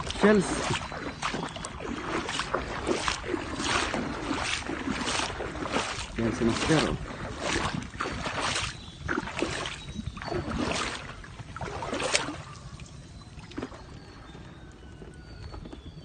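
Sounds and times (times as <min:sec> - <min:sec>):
water lapping: 0:00.0 - 0:16.0
water splashing and sloshing: 0:00.0 - 0:16.0.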